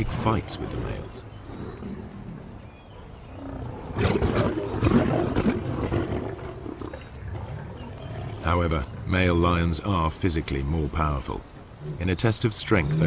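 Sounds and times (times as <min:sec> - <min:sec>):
lions growling and snarling: 0:00.0 - 0:10.0, 0:11.8 - 0:13.0.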